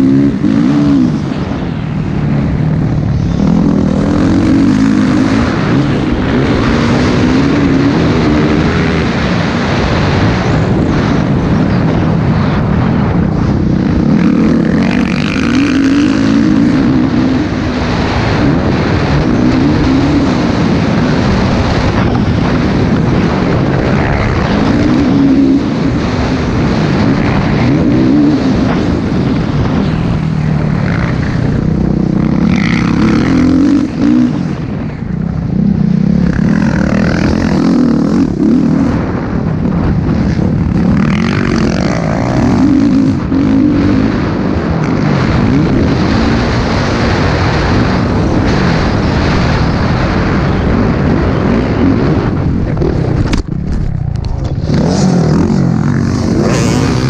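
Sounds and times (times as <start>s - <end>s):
dirt bike engine revving: 0.0s - 57.0s
wind noise on microphone: 0.0s - 57.0s.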